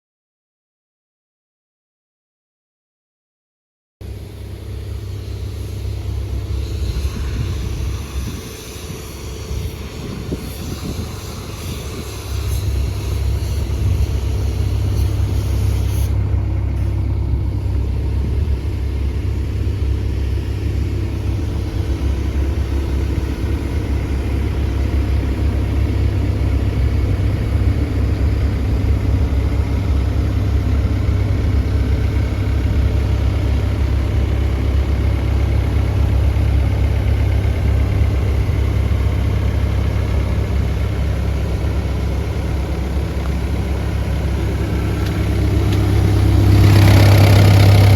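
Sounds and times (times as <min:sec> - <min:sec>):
excavator diesel engine idling: 0:04.0 - 0:47.9.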